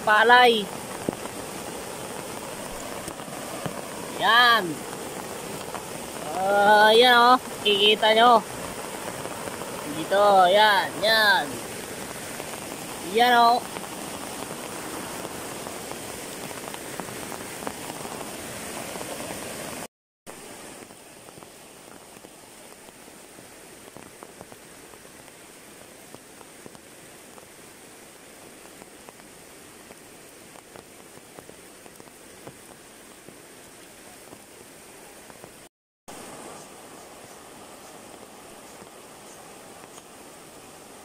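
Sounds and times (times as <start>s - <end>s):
floodwater rushing: 0.0s - 41.0s
steady rain: 0.0s - 41.0s.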